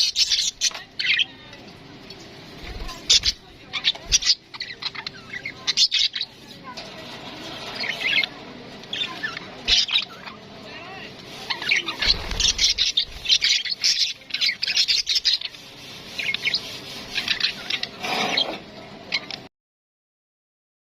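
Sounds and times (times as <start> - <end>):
parrots chirping and squawking: 0.0 - 19.5.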